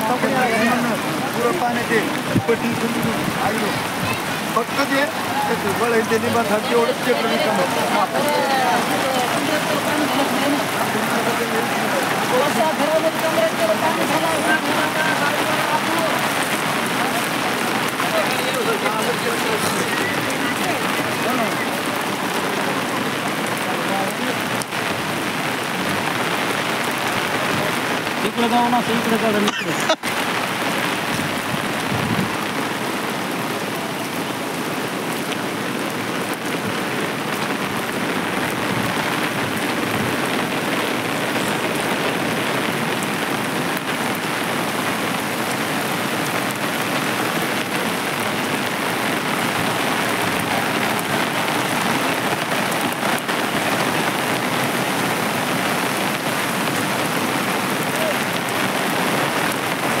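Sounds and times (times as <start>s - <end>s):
heavy rain hissing: 0.0s - 60.0s.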